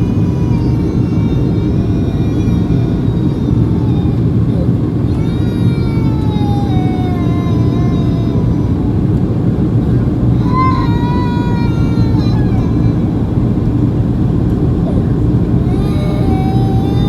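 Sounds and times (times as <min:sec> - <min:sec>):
airplane cabin engine rumble: 0:00.0 - 0:17.0
steady whine: 0:00.0 - 0:17.0.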